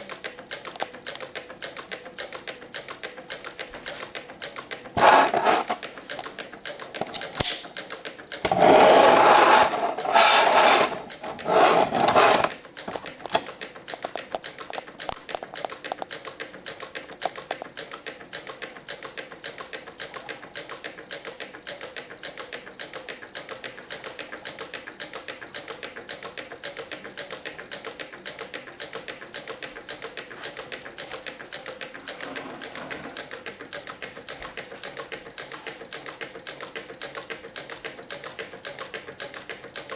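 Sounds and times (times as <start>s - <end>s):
model engine clattering: 0.0s - 39.9s.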